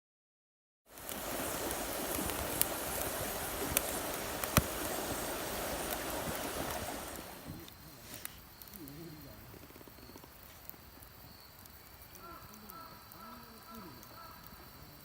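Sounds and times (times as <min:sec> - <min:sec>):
bonfire hissing: 0:00.9 - 0:15.0
fire crackling pops: 0:00.9 - 0:15.0.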